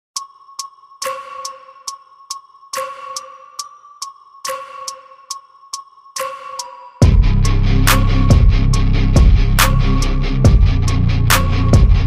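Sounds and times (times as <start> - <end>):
electronic music with ticking beat: 0.2 - 12.0.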